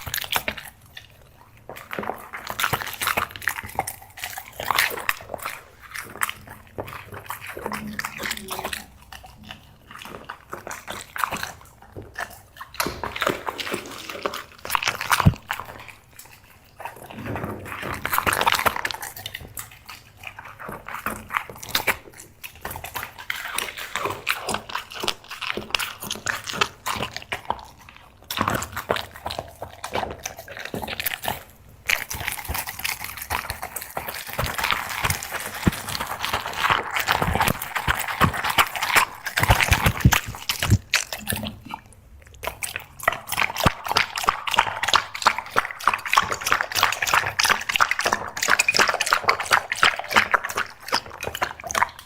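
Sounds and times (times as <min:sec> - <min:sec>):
dog chewing treats: 0:00.0 - 0:52.0.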